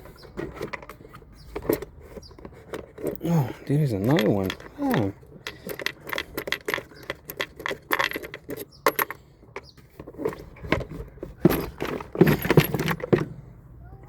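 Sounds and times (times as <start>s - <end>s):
hose clips clicking and clinking: 0.4s - 13.2s.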